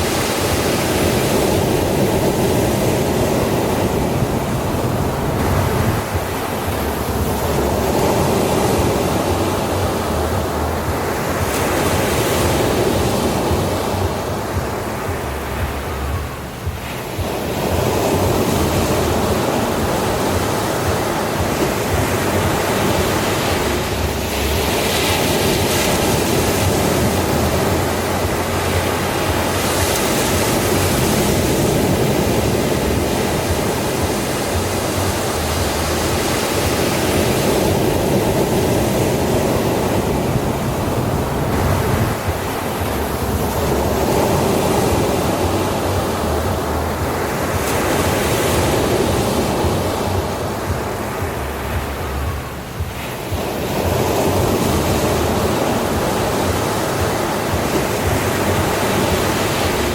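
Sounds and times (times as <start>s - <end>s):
ocean surf breaking on shore: 0.0s - 59.9s.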